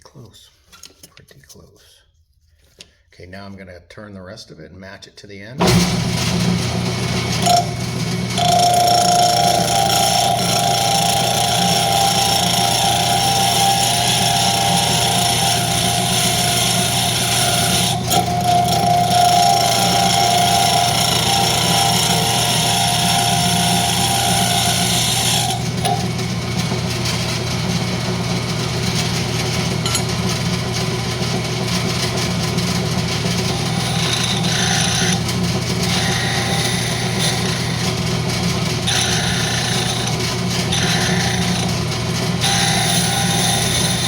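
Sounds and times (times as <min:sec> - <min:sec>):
turning tool cutting wood: 0:05.6 - 0:44.0
wood lathe motor hum: 0:05.6 - 0:44.0.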